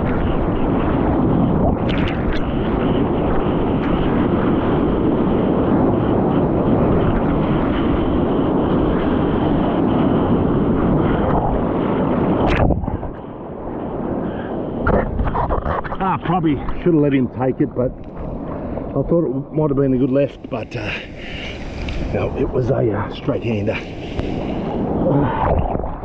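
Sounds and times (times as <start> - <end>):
rushing surf water: 0.0 - 26.0
wind noise on microphone: 0.0 - 26.0.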